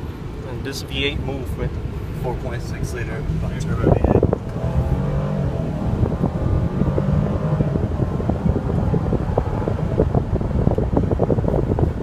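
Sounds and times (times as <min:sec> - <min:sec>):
car engine running low: 0:00.0 - 0:12.0.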